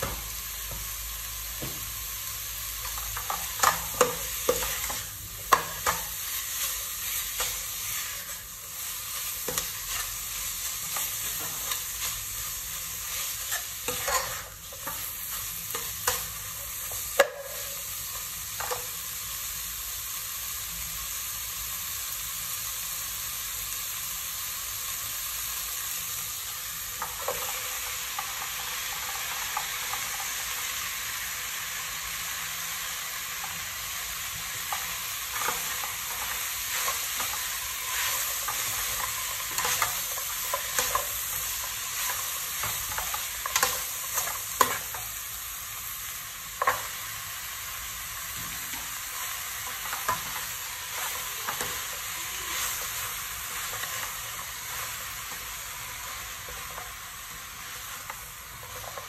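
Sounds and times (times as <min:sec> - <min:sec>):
food sizzling in a pot: 0:00.0 - 0:59.0.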